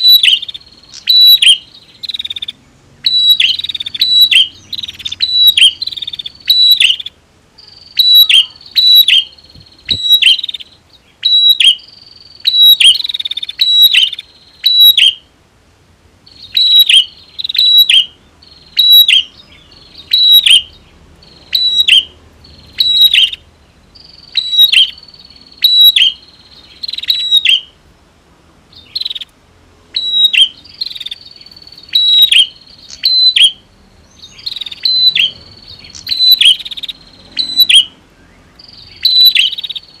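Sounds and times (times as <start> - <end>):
bird calling sharp notes: 0.0 - 15.3, 16.3 - 27.8, 28.7 - 40.0.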